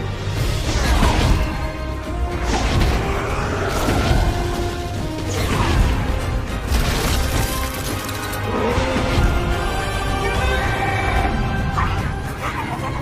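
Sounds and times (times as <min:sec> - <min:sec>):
dramatic film score: 0:00.0 - 0:13.0.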